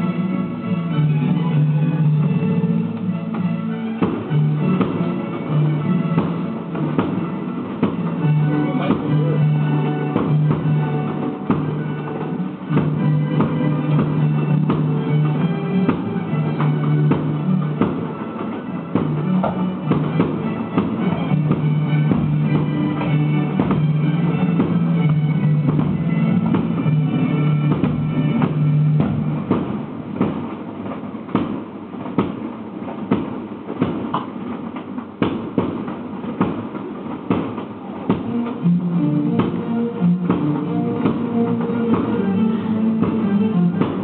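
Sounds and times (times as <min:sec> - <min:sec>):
held bass notes: 0:00.0 - 0:30.2, 0:37.8 - 0:44.0
sharp evenly spaced hits: 0:02.9 - 0:44.0.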